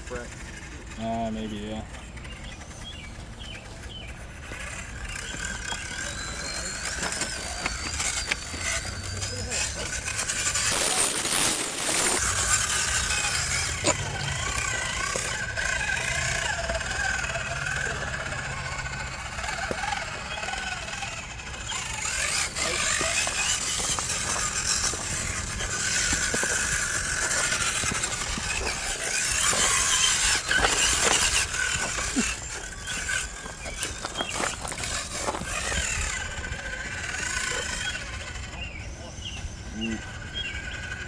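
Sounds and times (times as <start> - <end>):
toy truck motor whining: 0.0 - 41.0.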